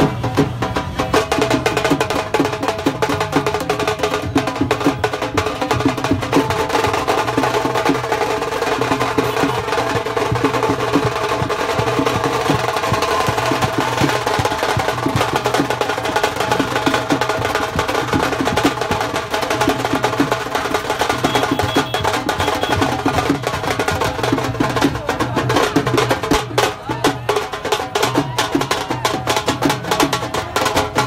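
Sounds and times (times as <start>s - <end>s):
fast drumming and percussion: 0.0s - 31.0s.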